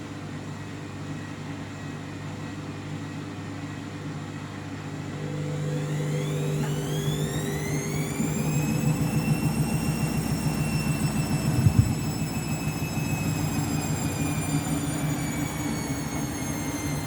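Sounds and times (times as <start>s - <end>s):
washing machine spinning: 3.0s - 17.0s.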